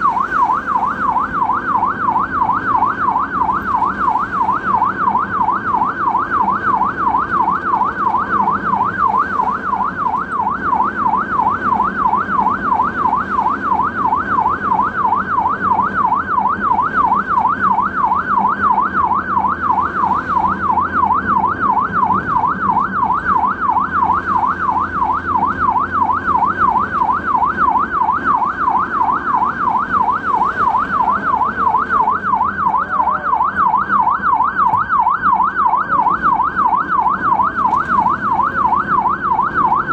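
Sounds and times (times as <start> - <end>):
ambulance siren yelping: 0.0 - 39.9
vehicle rumble: 0.0 - 39.9.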